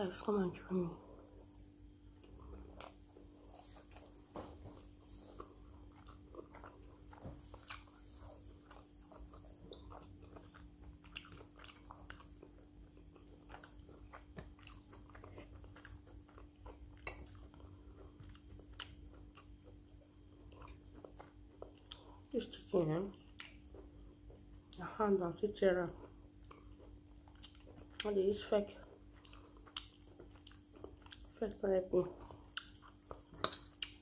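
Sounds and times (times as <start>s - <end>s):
steady low hum: 0.0s - 34.0s
person chewing food: 1.0s - 22.4s, 23.1s - 24.9s, 25.9s - 34.0s.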